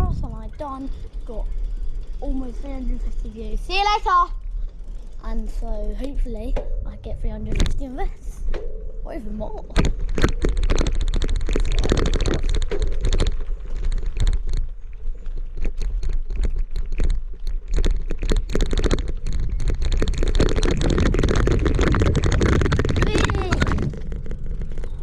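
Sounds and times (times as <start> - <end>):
bicycle rattling clicks: 0.0 - 6.8, 9.7 - 25.0
wind rumble on microphone: 0.0 - 25.0.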